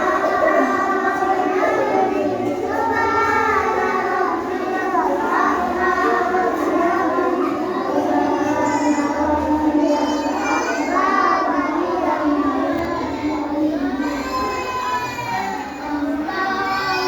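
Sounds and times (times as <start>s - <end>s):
children singing in unison: 0.0s - 17.0s.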